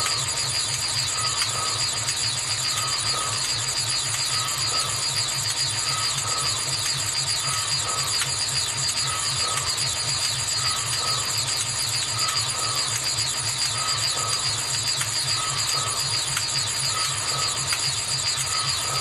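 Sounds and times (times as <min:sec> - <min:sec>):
fast-pulsing low hum: 0:00.0 - 0:19.0
high-pitched whines: 0:00.0 - 0:19.0.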